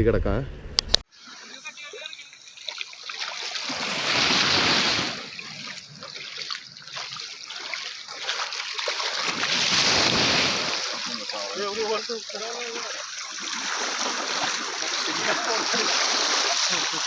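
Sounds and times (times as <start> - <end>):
rushing splashing water: 1.2 - 17.0.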